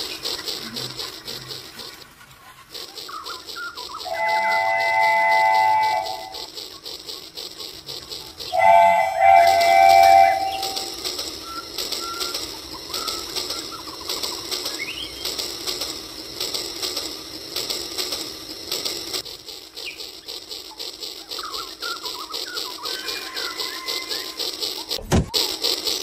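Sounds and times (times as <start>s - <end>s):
birds chirping: 0.0s - 17.6s, 19.6s - 25.0s
toy train clicking clatter: 0.0s - 26.0s.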